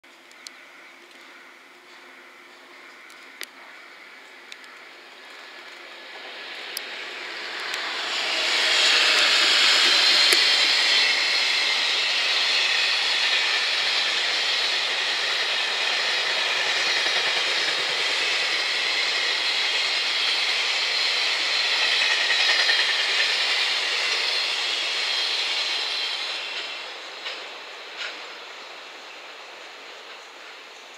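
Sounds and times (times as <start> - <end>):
train wheels rolling on rail: 0.1 - 30.9.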